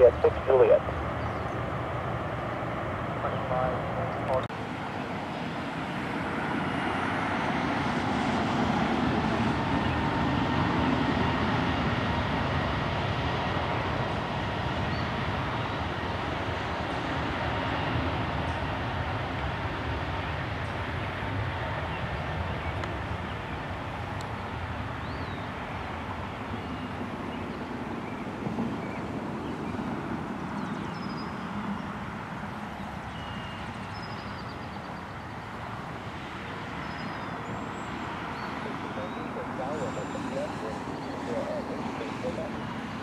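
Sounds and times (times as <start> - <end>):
jet airliner engine rumble: 0.0 - 43.0.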